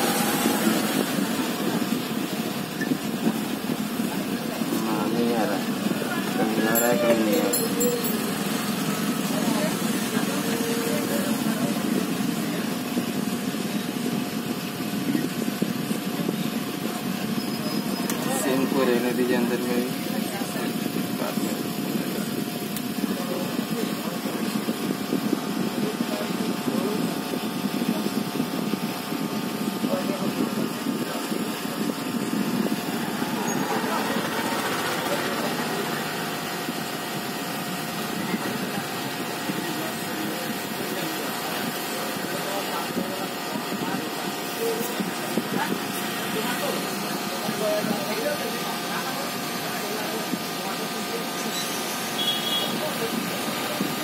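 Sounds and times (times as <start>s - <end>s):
hot air station blowing with whine: 0.0s - 54.0s
small motor humming: 0.0s - 54.0s.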